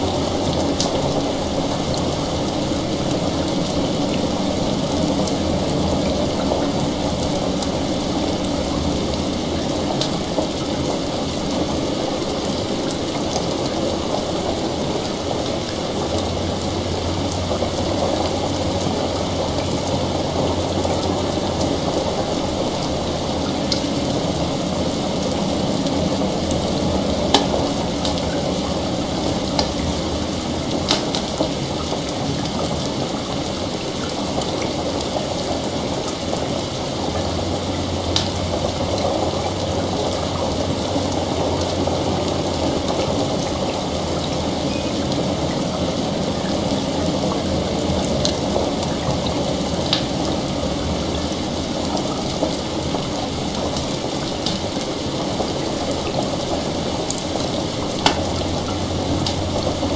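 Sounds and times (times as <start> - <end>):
fire crackling: 0.0 - 59.9
heavy rain: 0.0 - 59.9.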